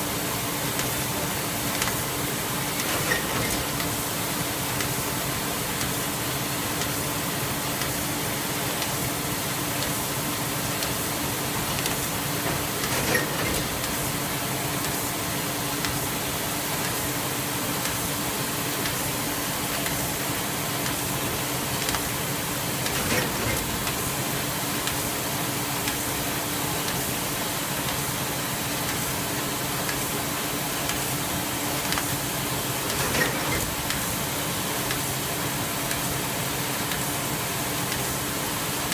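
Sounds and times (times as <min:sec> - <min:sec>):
machinery hiss and hum: 0:00.0 - 0:38.9.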